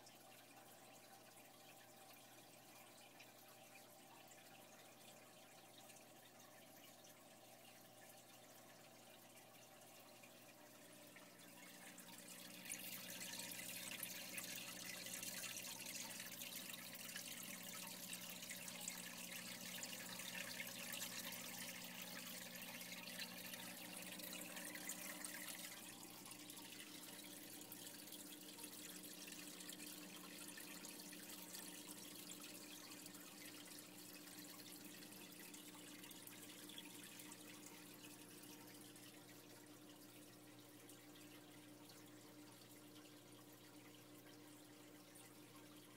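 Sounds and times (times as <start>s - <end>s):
aquarium water trickling: 0.0s - 45.9s
low steady hum: 0.0s - 45.9s.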